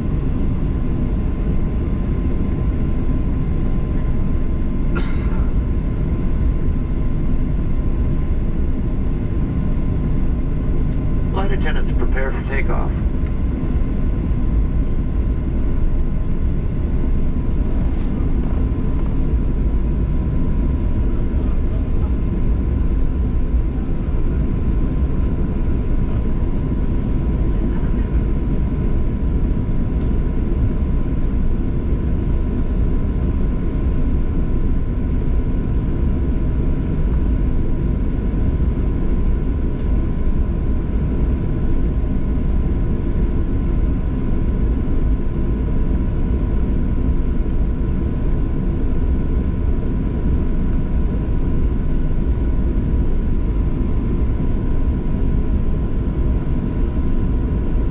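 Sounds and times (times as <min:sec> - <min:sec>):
jet engines rumbling in cabin: 0:00.0 - 0:57.9.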